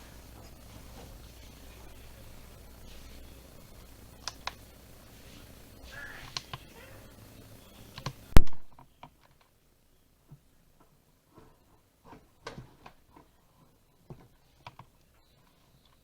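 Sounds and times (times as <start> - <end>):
faint clicks and taps: 0.0 - 5.5, 6.2 - 6.8, 7.7 - 9.6, 10.3 - 16.0
steady background hiss: 0.0 - 16.0.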